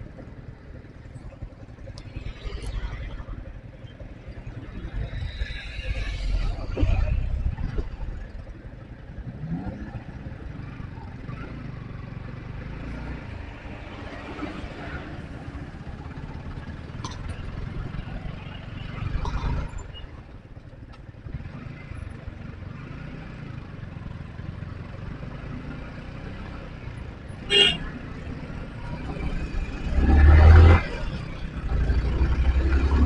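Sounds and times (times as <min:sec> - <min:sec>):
motorcycle engine at low speed: 0:00.0 - 0:33.0
road and traffic noise: 0:00.0 - 0:33.0.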